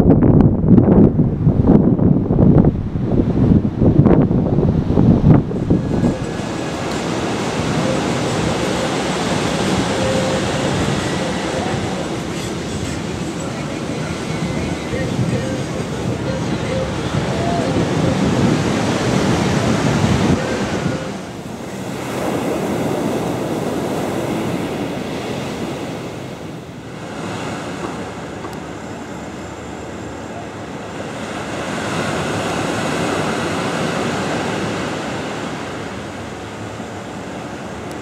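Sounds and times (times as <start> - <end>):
ocean waves breaking on beach: 2.2 - 38.0.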